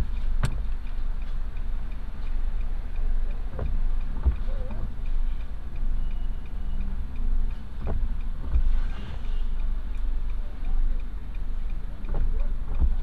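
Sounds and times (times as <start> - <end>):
car indicator ticking: 0.0 - 8.8, 9.4 - 13.0
low steady rumble: 0.0 - 13.0.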